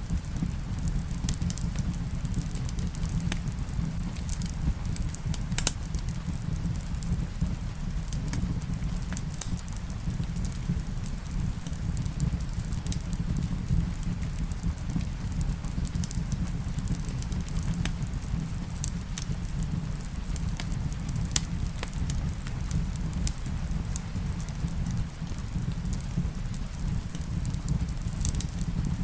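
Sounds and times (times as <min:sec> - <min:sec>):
steady rain: 0:00.0 - 0:29.0
wood fire crackling: 0:00.0 - 0:29.0.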